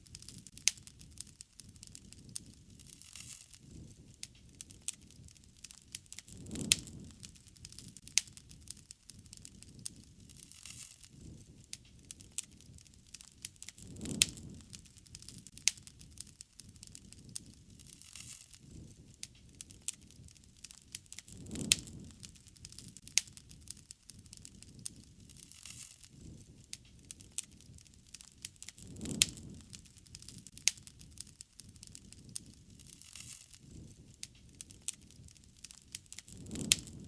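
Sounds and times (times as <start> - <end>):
campfire crackling: 0.0 - 37.0
fire whoosh: 0.0 - 37.0.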